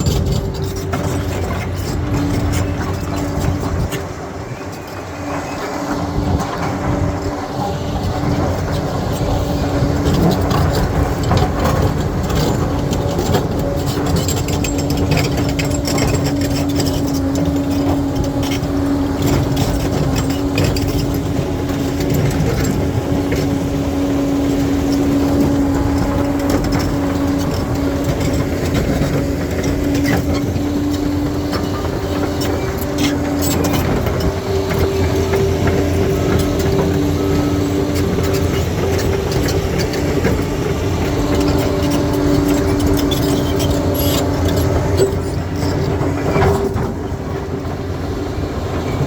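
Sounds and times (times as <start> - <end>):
bulldozer diesel engine: 0.0 - 49.0
steel tracks clanking: 0.0 - 49.0.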